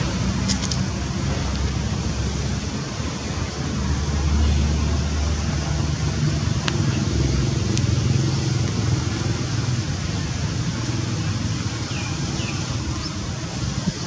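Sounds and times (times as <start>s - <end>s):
outdoor background noise: 0.0s - 14.0s
vehicle engine hum: 0.0s - 14.0s.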